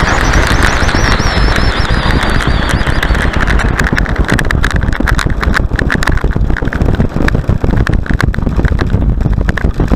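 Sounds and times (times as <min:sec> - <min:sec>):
airframe and wheels rattling: 0:00.0 - 0:09.9
electric ducted fans running: 0:00.0 - 0:09.9.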